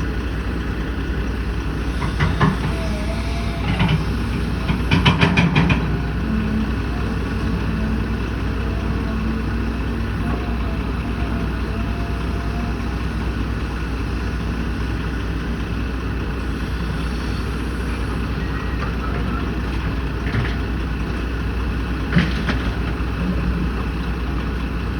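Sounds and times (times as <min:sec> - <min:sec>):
engine running with low rumble: 0:00.0 - 0:24.9.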